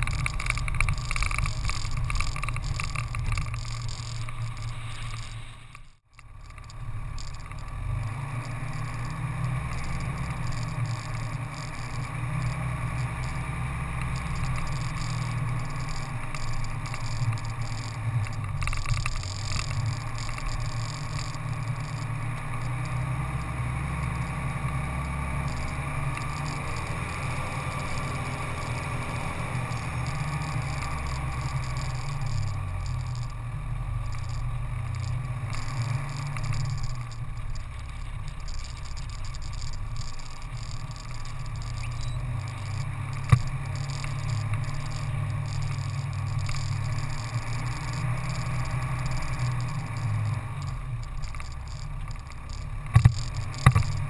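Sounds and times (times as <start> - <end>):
off-road vehicle engine running: 0.0 - 54.0
tyres on dirt: 0.0 - 54.0.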